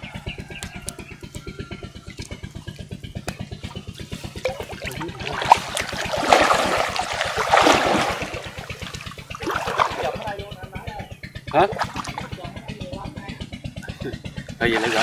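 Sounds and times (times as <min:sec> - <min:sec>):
small engine running: 0:00.0 - 0:15.0
water splashing and churning: 0:01.5 - 0:15.0.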